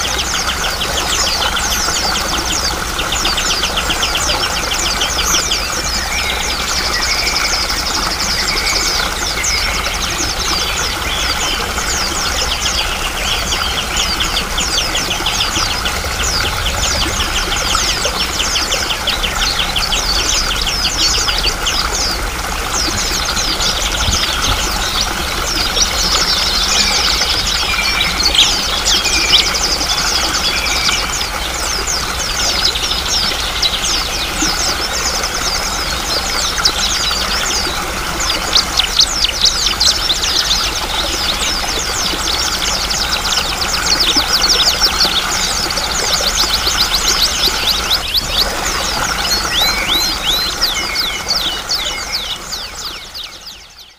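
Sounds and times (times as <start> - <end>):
songbirds trilling: 0.0 - 53.9
stream water running: 0.0 - 53.9.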